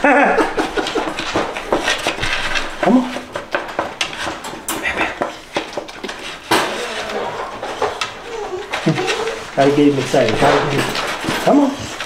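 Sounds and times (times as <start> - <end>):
wire dog crate rattling: 0.4 - 12.0.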